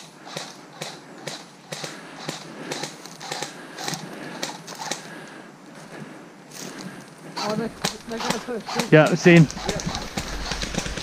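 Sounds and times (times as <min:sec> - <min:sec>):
leaves rustling: 0:00.0 - 0:11.0.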